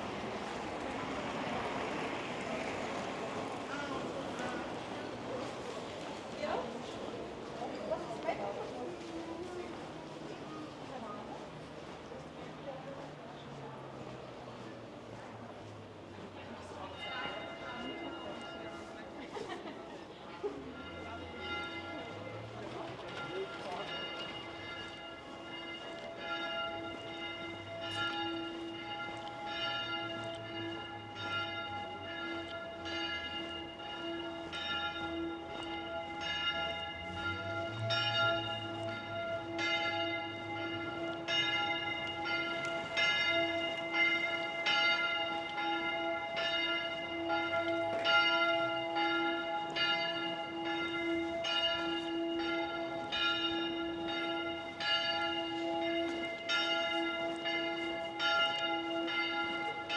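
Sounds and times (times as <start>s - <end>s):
church bells ringing a peal: 0.0s - 11.6s, 16.3s - 59.9s.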